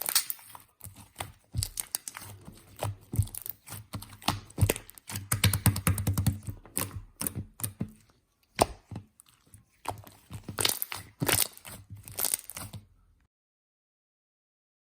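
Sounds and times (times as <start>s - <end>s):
slime squishing with sticky pops: 0.0s - 12.8s.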